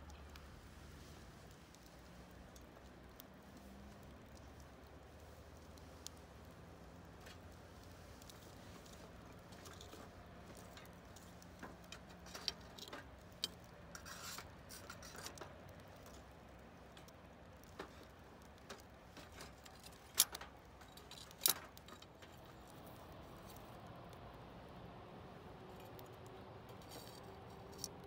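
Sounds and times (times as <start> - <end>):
sharp clicks and light clinks: 1.4 - 24.3, 25.6 - 28.0.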